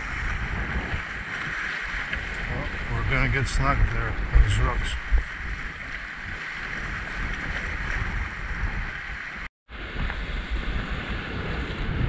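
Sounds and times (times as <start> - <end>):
sea waves washing against rocks: 0.0 - 12.0
wind buffeting microphone: 0.0 - 12.0.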